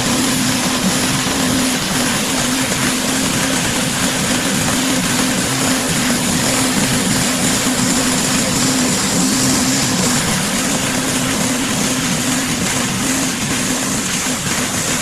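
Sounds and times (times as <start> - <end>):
pressure washer engine drone: 0.0 - 15.0
water spraying onto concrete: 0.0 - 15.0.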